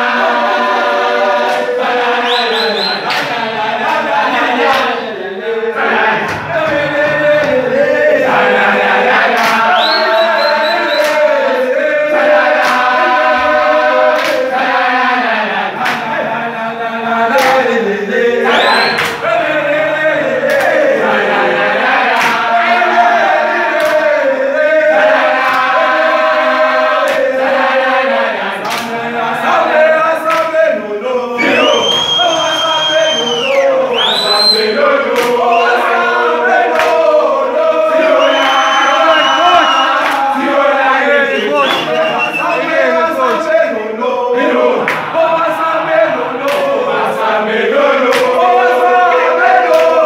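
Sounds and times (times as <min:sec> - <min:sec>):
men singing a chant: 0:00.0 - 0:50.0.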